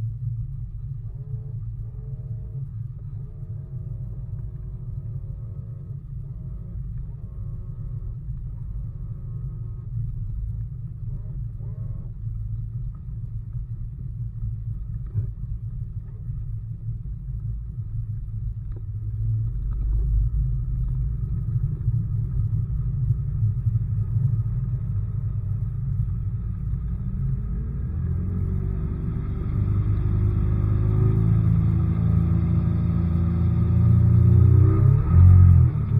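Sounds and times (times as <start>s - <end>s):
outboard motor rumble: 0.0s - 35.9s
wind: 0.0s - 35.9s.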